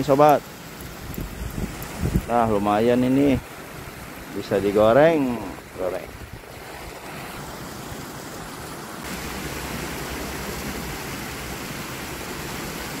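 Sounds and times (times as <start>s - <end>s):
water rushing over a weir: 0.0s - 13.0s.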